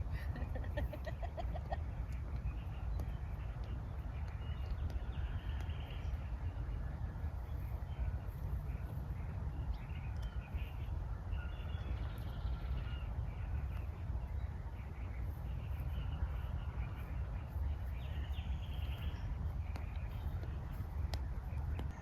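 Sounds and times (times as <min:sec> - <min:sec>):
birds calling: 0:00.0 - 0:22.0
steady low rumble: 0:00.0 - 0:22.0.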